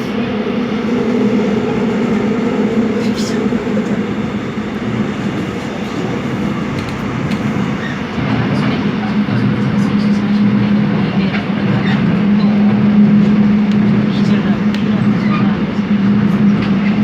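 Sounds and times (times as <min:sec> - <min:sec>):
subway train rolling: 0:00.0 - 0:17.0.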